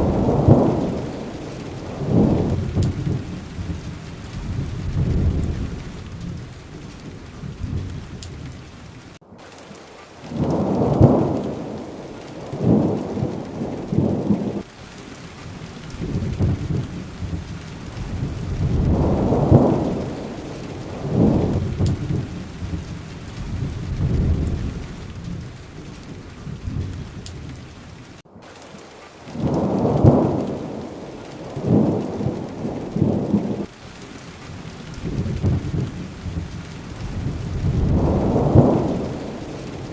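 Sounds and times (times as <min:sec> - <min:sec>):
rolling thunder: 0:00.0 - 0:09.2, 0:10.3 - 0:28.2, 0:29.3 - 0:33.7, 0:34.5 - 0:39.9
heavy rain: 0:00.0 - 0:39.9.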